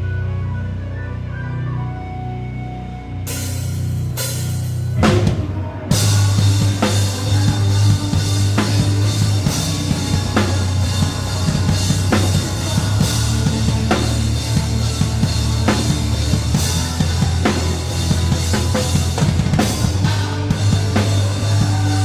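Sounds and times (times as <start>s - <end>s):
sustained bass line: 0.0s - 22.0s
rock drum kit playing: 3.3s - 22.0s.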